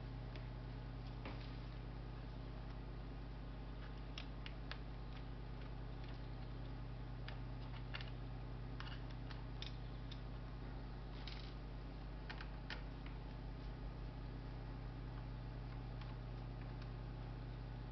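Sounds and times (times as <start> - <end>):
low electrical hum: 0.0 - 17.9.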